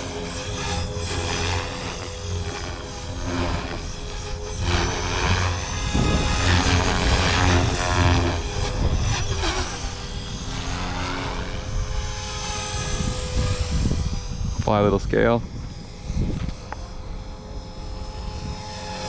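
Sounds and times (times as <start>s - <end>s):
rc helicopter rotor and motor whine: 0.0s - 19.0s.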